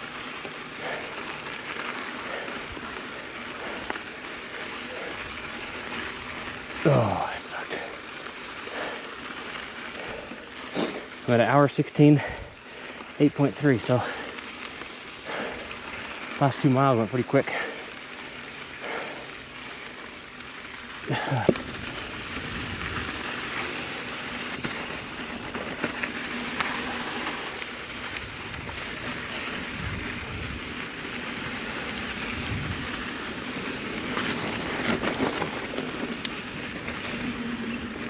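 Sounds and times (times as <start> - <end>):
bike tyres on gravel trail: 0.0 - 38.0.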